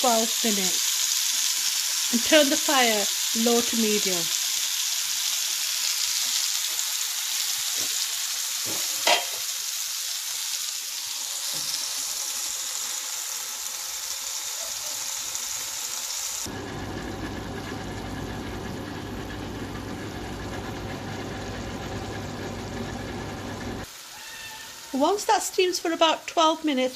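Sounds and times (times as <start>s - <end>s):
chicken sizzling in a pan: 0.0s - 19.6s, 23.2s - 26.8s.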